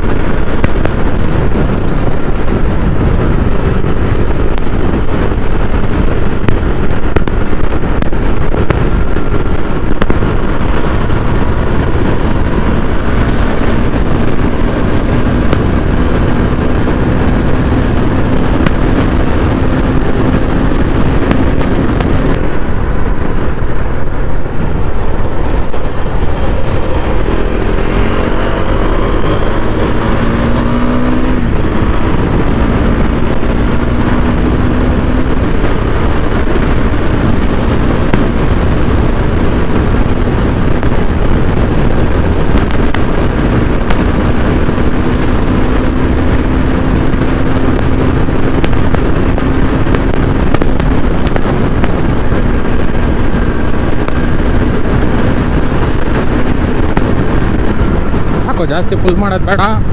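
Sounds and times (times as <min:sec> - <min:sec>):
motorcycle engine running: 0:00.0 - 0:59.9
wind rushing on microphone: 0:00.0 - 0:59.9.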